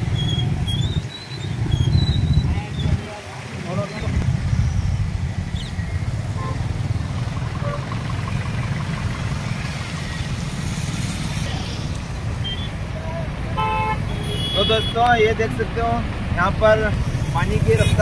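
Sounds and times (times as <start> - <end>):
traffic rumble on bridge: 0.0 - 18.0.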